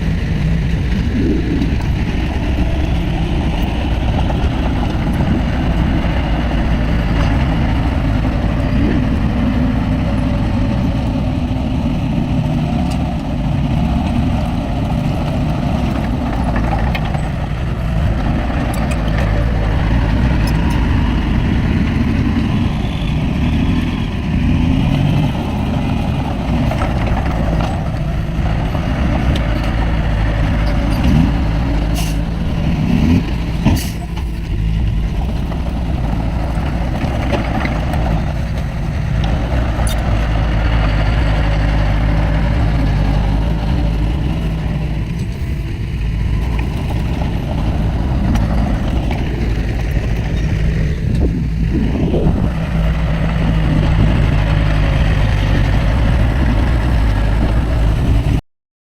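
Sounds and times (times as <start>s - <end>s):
heavy diesel machinery engine hum: 0.0s - 58.4s.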